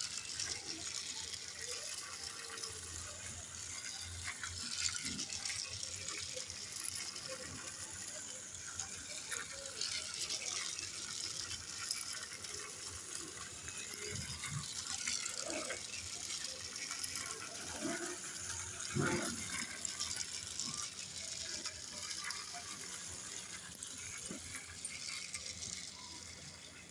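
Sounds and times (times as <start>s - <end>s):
toy train motor whirring: 0.0s - 26.9s.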